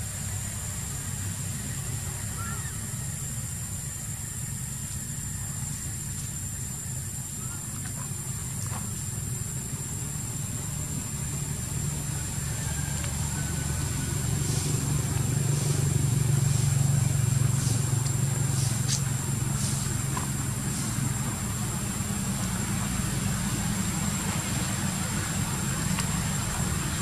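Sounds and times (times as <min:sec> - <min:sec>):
engine rumble: 0:00.0 - 0:27.0.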